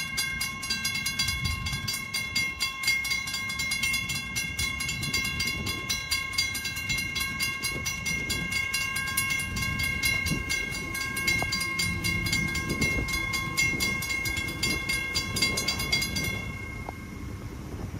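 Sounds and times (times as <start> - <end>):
crossing signal bells ringing: 0.0 - 17.9.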